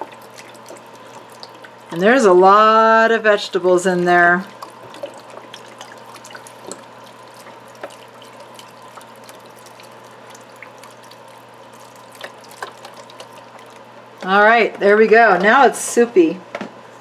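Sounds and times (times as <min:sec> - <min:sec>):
liquid pouring into pot: 0:00.0 - 0:14.2
drips and splashes: 0:00.0 - 0:14.3
faint steady hum: 0:00.0 - 0:17.0.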